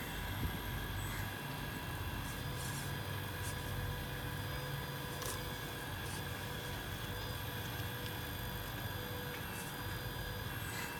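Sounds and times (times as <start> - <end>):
small electric motors whirring: 0.0 - 10.9.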